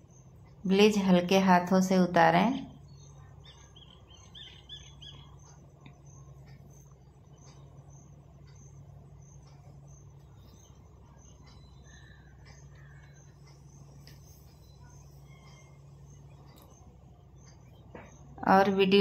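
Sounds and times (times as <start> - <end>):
faint high-pitched chirping: 0.0 - 19.0
steady low hum: 0.0 - 19.0.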